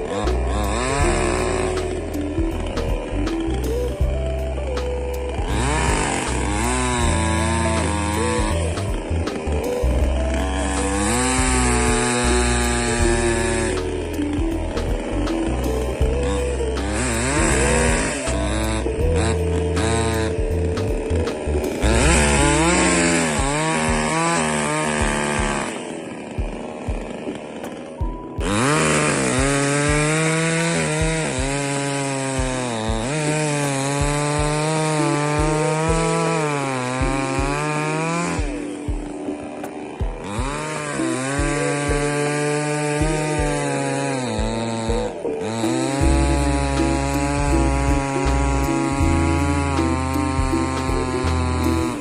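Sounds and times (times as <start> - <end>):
chainsaw revving: 0.0 - 52.0.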